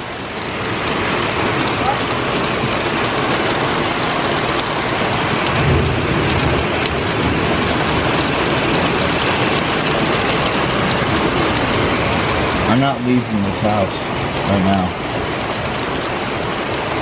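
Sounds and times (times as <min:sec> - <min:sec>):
heavy rain falling: 0:00.0 - 0:17.0
low thunder rumble: 0:01.3 - 0:17.0.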